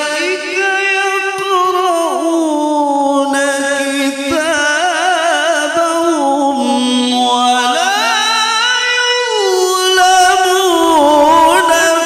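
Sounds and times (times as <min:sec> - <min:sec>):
man chanting through microphone: 0:00.0 - 0:12.0.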